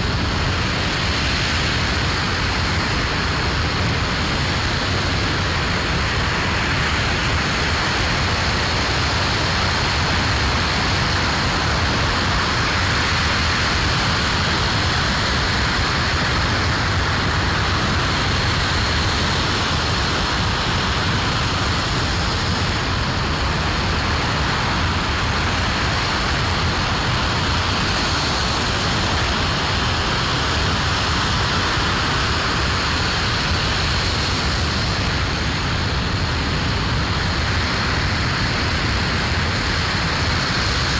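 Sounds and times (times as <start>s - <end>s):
rocket engine roaring: 0.0s - 40.9s.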